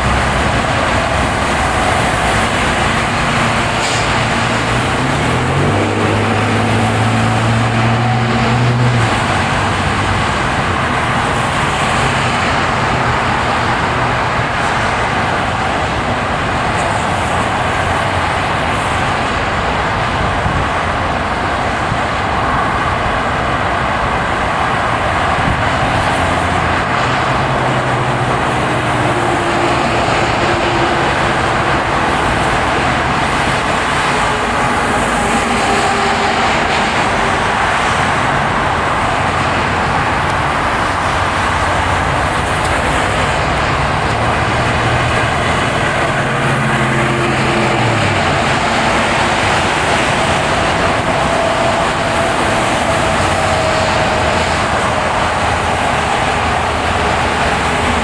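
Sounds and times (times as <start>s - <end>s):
low engine hum: 0.0s - 58.0s
tyre and road noise: 0.0s - 58.0s.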